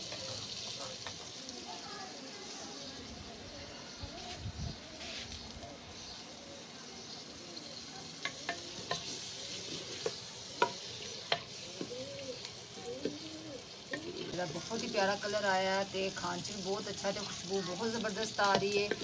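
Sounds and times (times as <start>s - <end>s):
food sizzling in a pot: 0.0s - 19.0s.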